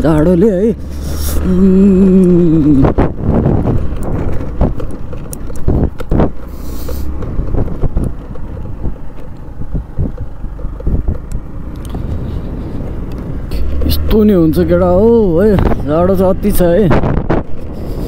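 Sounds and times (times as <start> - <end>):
scooter engine running: 0.0 - 18.0
wind rushing over microphone: 0.0 - 18.0
knocks and rattles on bumps: 2.0 - 18.0.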